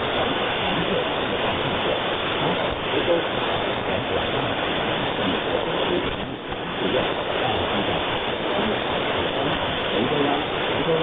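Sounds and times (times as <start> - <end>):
radio static hiss: 0.0 - 11.0
faint radio voice: 0.5 - 11.0.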